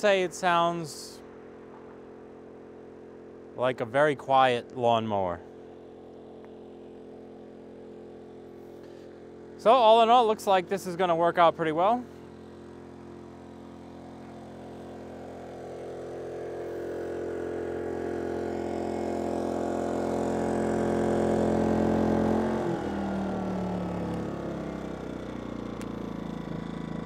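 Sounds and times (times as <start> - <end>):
generator running: 0.0 - 27.0.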